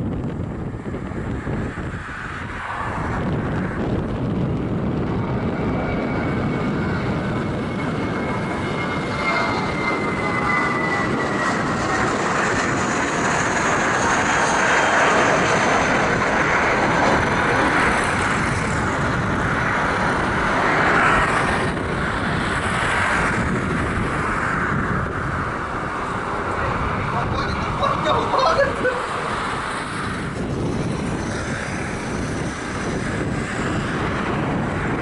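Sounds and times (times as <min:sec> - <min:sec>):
jet airliner taking off: 0:00.0 - 0:35.0.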